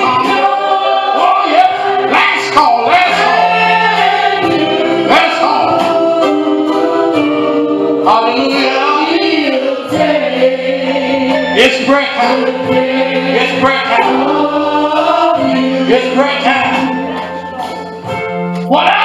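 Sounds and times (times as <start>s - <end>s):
choir singing slow gospel song: 0.0s - 17.4s.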